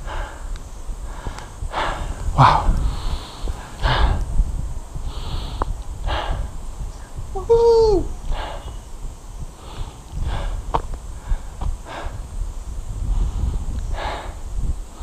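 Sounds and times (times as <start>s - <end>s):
person breathing hard: 0.0s - 7.2s, 8.2s - 15.0s
wind rumble on microphone: 0.0s - 15.0s.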